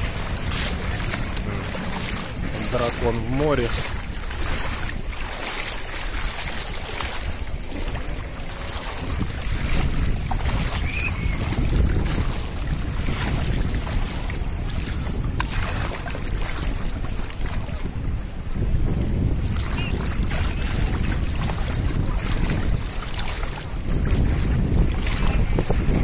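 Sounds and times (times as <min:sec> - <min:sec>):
small waves lapping: 0:00.0 - 0:26.0
wind buffeting microphone: 0:00.0 - 0:26.0.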